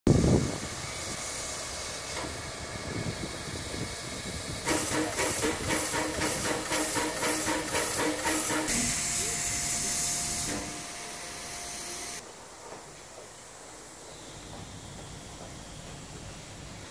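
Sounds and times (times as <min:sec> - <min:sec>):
rhythmic steam pulsing: 0:00.1 - 0:16.9
steam locomotive hissing steam: 0:00.1 - 0:16.9.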